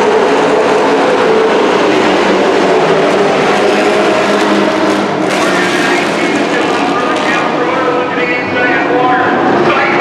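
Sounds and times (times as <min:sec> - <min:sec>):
racing truck engines: 0:00.0 - 0:10.0
truck passing close: 0:00.0 - 0:10.0.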